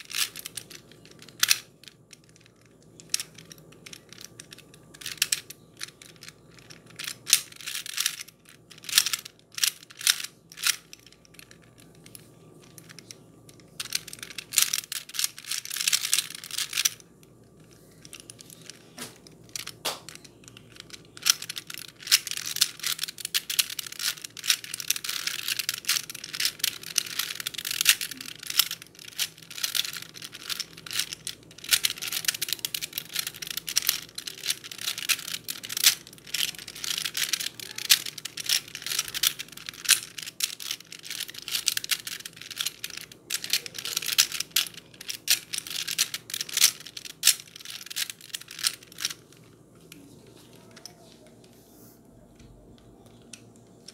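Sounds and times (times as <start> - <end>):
puzzle cube clicking and rattling: 0.0 - 51.5.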